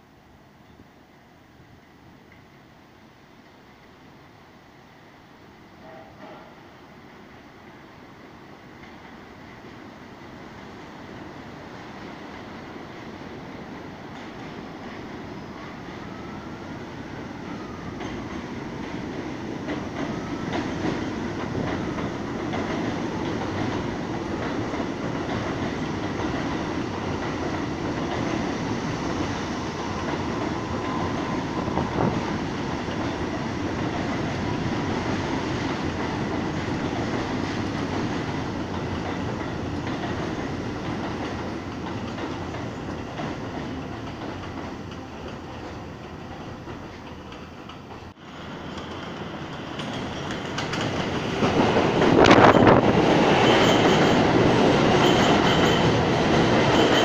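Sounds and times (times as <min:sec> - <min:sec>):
subway train rumbling past: 0:00.0 - 0:57.0.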